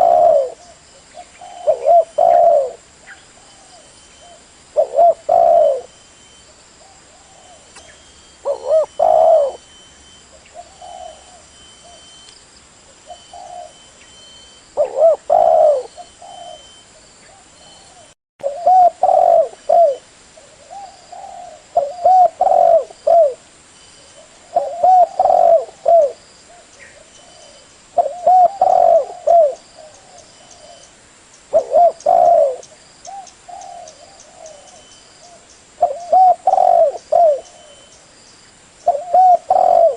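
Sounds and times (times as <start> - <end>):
dove cooing: 0.0 - 12.1, 13.0 - 13.9, 14.8 - 23.4, 24.0 - 30.9, 31.5 - 38.0, 38.8 - 39.9.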